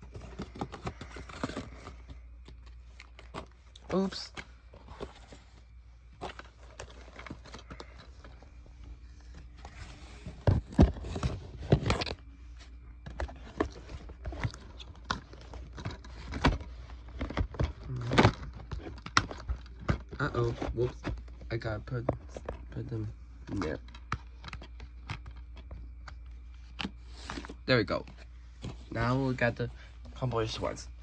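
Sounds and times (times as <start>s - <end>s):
knocks taps and rustles of handling: 0.0s - 30.8s.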